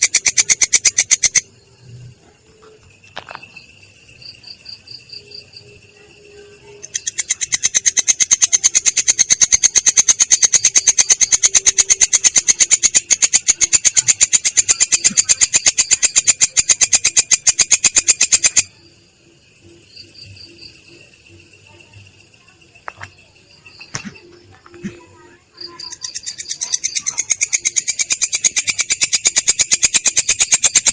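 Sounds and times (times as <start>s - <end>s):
faint insect trill: 0.0s - 30.9s
insect stridulating in dry pulses: 0.0s - 30.9s.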